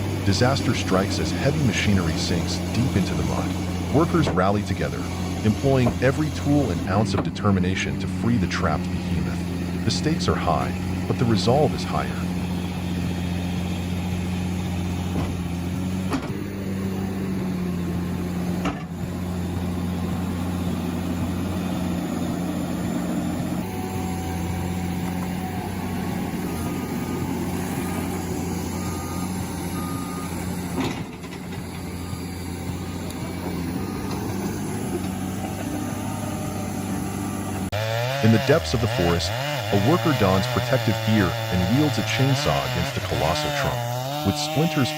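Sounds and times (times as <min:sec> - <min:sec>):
heavy machinery engine humming: 0:00.0 - 0:44.9.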